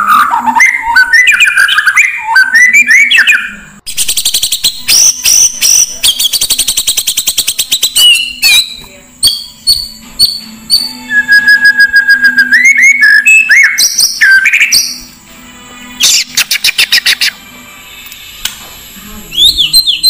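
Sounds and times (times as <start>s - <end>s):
bird whistled song phrases: 0.0s - 15.1s, 16.0s - 17.4s, 19.3s - 20.0s.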